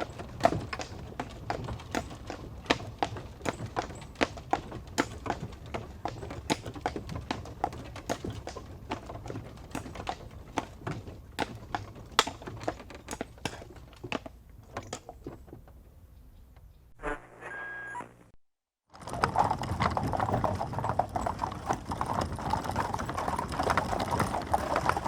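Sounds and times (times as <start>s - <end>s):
carriage wheels rumbling: 0.0s - 15.8s, 18.9s - 25.0s
hooves clip-clopping: 0.0s - 15.9s, 19.0s - 25.0s.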